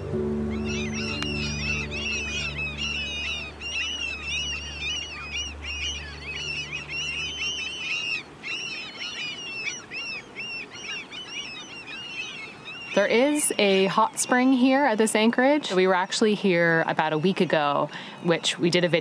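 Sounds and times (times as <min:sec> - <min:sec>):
flock of gulls calling: 0:00.0 - 0:19.0.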